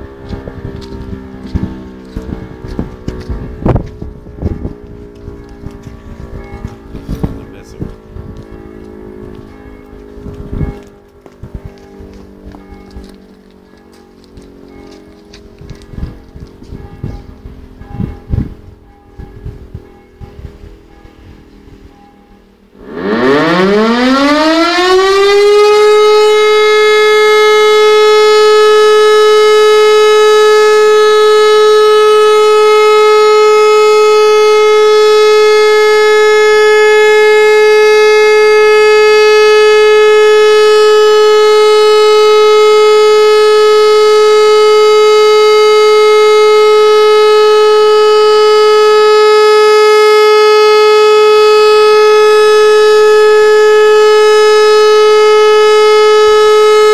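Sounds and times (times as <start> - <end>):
warning siren rising to steady tone: 0.0 - 56.9.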